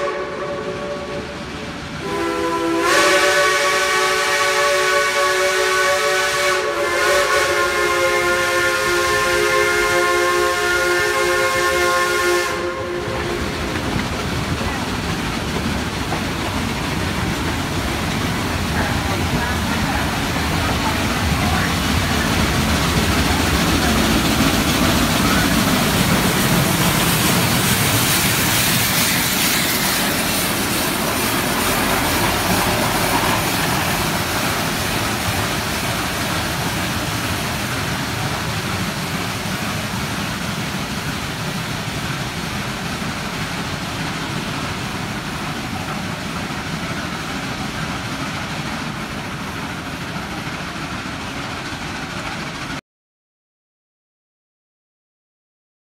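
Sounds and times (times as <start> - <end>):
steam locomotive exhaust chuffing: 0.0 - 52.8.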